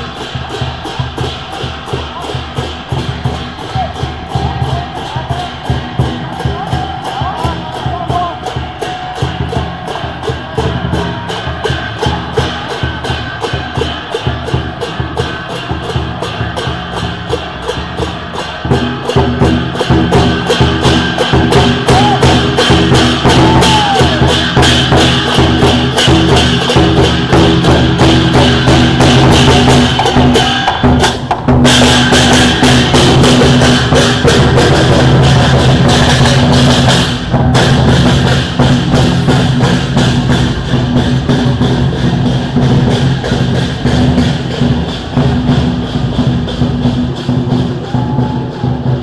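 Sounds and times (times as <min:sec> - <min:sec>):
drum beating: 0:00.0 - 0:49.0
hand cymbals clashing: 0:00.0 - 0:49.0.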